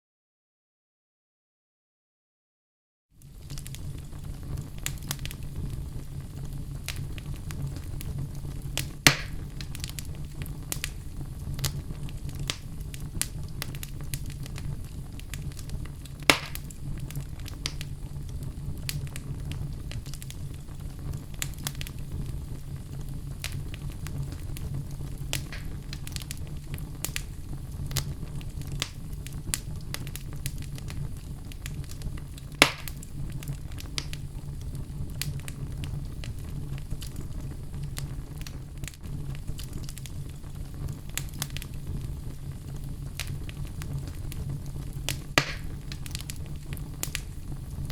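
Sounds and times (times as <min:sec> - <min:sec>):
low fire rumble: 0:03.1 - 0:47.9
fire crackling: 0:03.2 - 0:47.9
loud pops of fire: 0:03.2 - 0:47.9.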